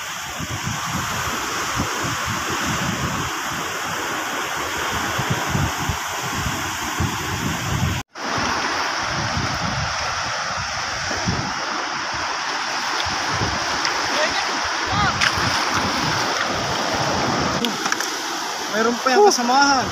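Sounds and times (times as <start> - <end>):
shallow sea water and surf: 0.0 - 19.9
wind gusting on microphone: 0.0 - 19.9.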